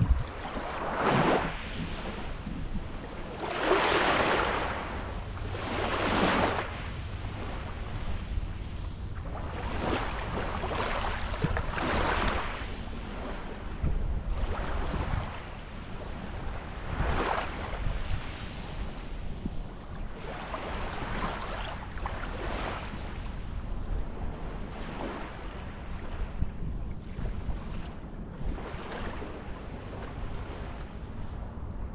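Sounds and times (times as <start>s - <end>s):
waves washing on sand beach: 0.0s - 26.0s
wind rumble on microphone: 0.0s - 31.9s.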